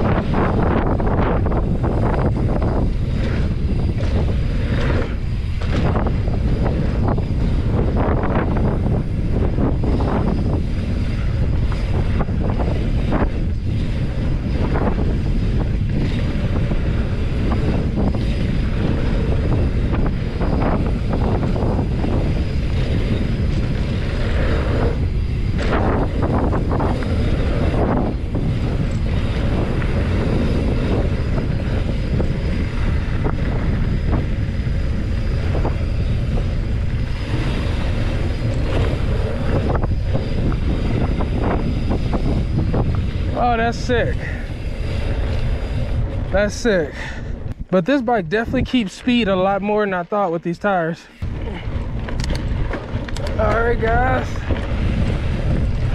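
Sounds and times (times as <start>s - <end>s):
bike rattling over bumps: 0.0s - 47.8s, 50.7s - 55.9s
bike tyre roar: 0.0s - 55.9s
wind buffeting microphone: 0.0s - 55.9s.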